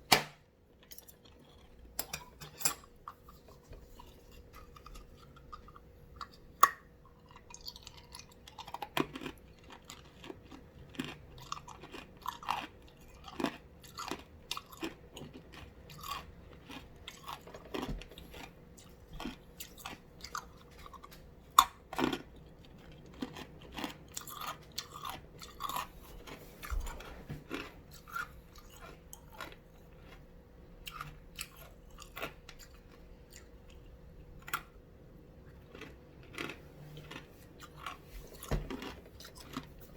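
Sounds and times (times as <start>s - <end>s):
ice being chewed: 0.8s - 34.8s, 35.4s - 39.9s.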